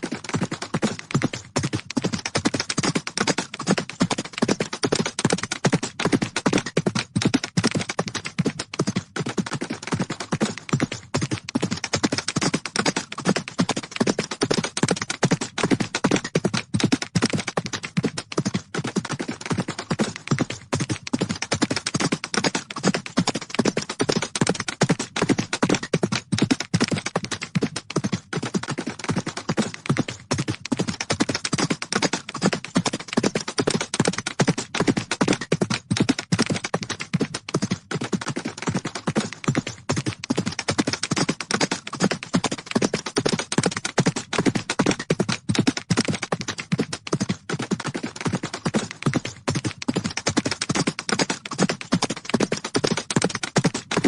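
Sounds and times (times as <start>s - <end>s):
horses galloping: 0.0s - 54.0s.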